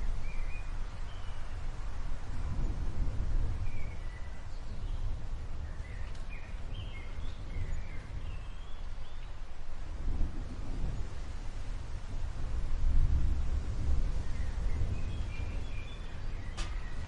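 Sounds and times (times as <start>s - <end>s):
gusting wind: 0.0s - 17.0s.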